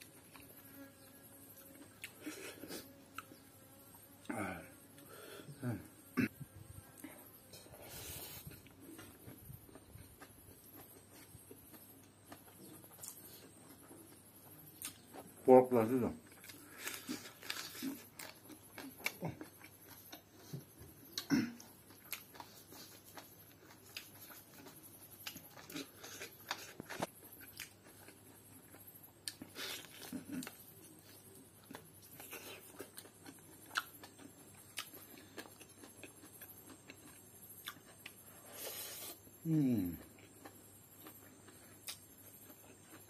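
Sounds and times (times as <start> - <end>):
man chewing crunchy food: 0.0 - 4.3, 6.2 - 15.4, 16.2 - 43.0.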